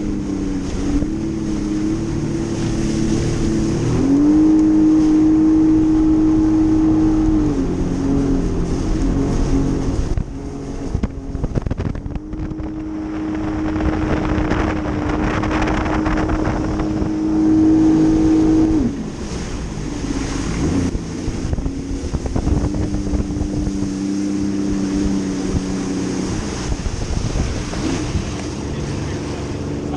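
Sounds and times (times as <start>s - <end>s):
jet ski engine: 0.0s - 29.9s
water rushing: 0.0s - 29.9s
wind buffeting microphone: 0.0s - 29.9s.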